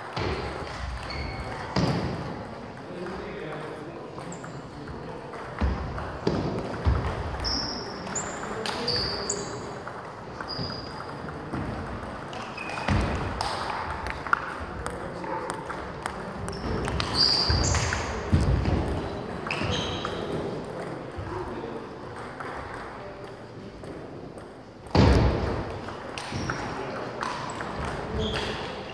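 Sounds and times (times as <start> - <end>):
table tennis balls clicking: 0.3 - 21.2, 21.9 - 24.9, 25.5 - 28.9.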